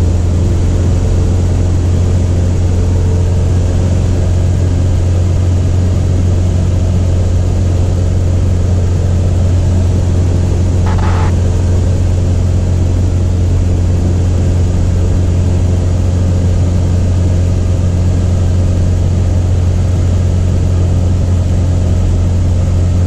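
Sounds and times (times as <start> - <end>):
airplane engine and propeller hum: 0.0 - 23.0.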